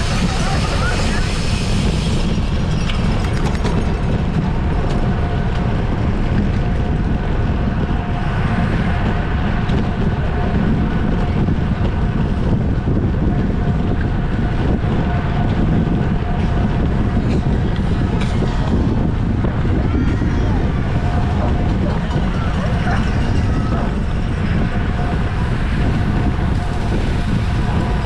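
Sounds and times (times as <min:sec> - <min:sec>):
heavy wind rumble on microphone: 0:00.0 - 0:28.0.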